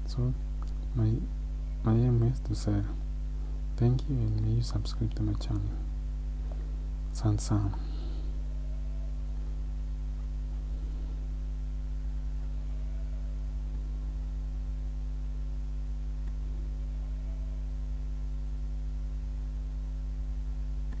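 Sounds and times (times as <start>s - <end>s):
mains hum: 0.0s - 21.0s.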